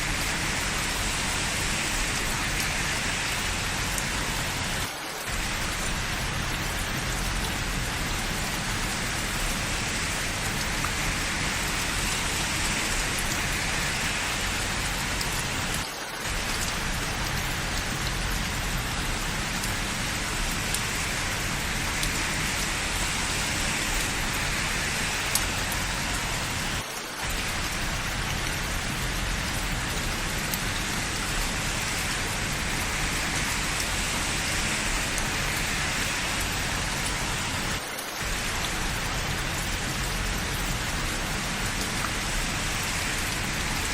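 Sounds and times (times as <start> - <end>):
rain on hard surfaces: 0.0 - 43.9.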